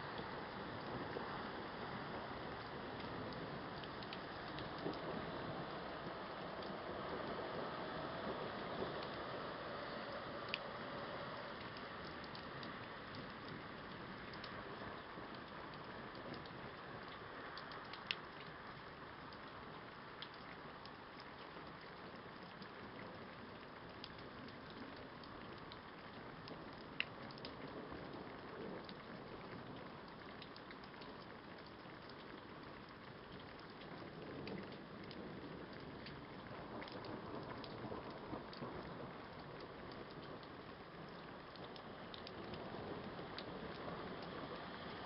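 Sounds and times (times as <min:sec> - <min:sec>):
raindrop ticks: 0:00.0 - 0:45.0
steady rain hiss: 0:00.0 - 0:45.0.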